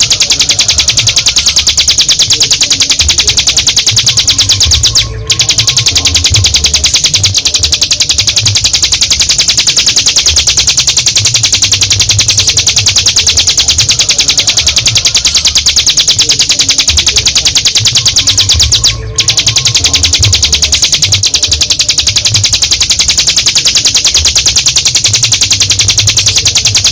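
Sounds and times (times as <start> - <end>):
bird singing rapid high trill: 0.0 - 26.9.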